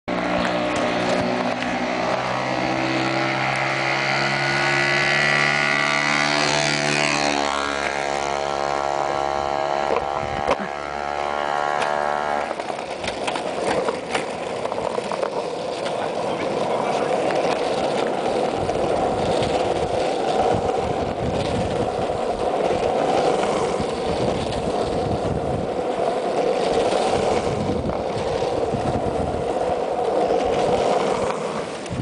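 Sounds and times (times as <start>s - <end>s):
rough rushing noise: 0.1s - 32.0s.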